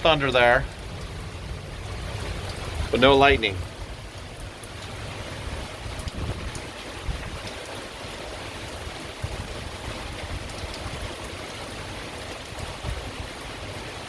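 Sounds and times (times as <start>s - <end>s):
heavy rain pouring: 0.0s - 14.0s
rain drop hits: 0.0s - 14.0s.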